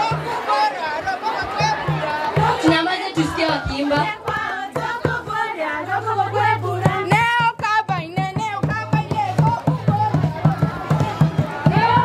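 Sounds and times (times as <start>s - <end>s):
regular beat: 0.0s - 12.0s
girls singing together: 1.0s - 12.0s.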